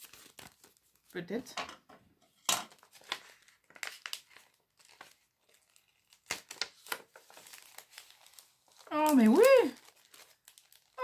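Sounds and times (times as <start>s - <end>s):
paper rustling and crinkling: 0.0s - 1.5s, 2.3s - 11.0s.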